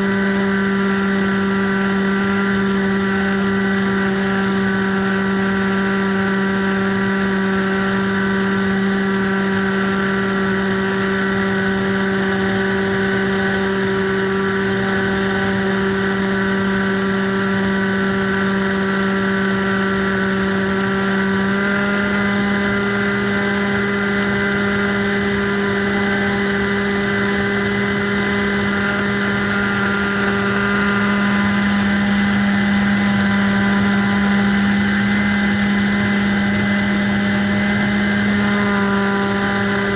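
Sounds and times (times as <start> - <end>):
model plane motor droning: 0.0 - 39.9.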